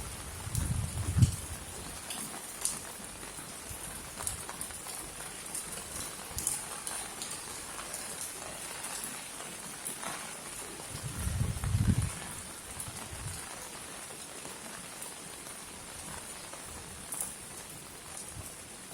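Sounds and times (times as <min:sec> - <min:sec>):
raindrops ticking: 0:00.0 - 0:18.9
steady rain hiss: 0:00.0 - 0:18.9.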